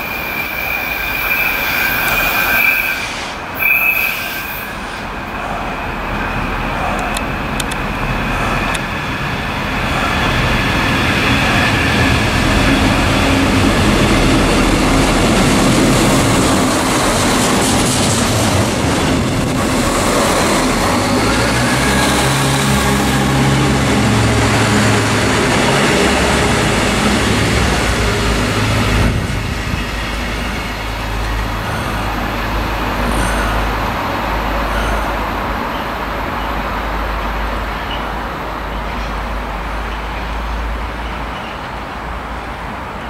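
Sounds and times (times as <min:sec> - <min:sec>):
road traffic noise: 0:00.0 - 0:43.0
train wheels rumbling on rails: 0:00.0 - 0:43.0.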